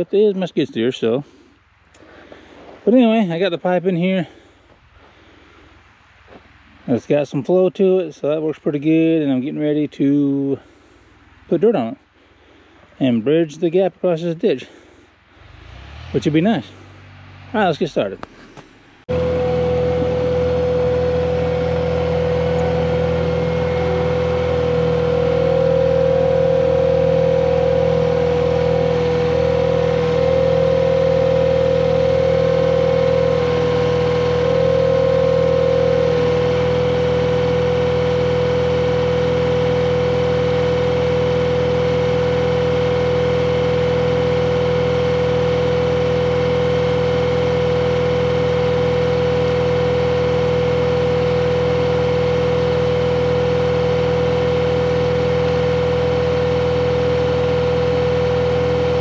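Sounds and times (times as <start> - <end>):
diesel engine whining: 0.0 - 59.0.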